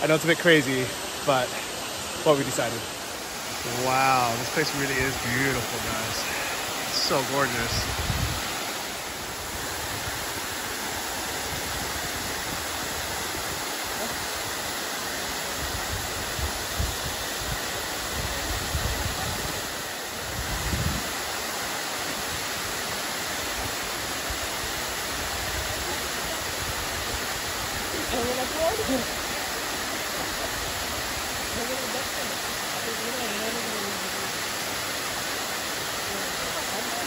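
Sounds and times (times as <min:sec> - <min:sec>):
waterfall rushing over rock: 0:00.0 - 0:37.0.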